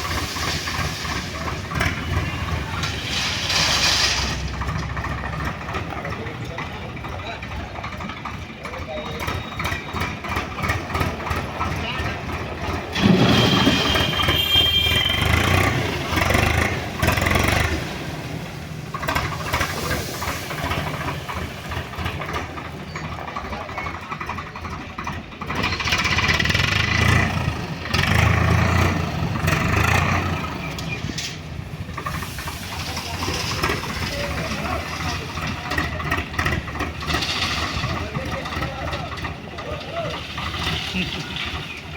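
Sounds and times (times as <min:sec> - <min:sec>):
backhoe diesel engine rumbling: 0:00.0 - 0:41.9.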